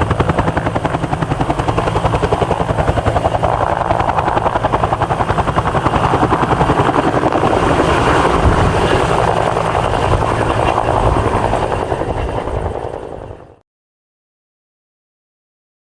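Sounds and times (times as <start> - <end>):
helicopter rotor beating: 0.0 - 13.6.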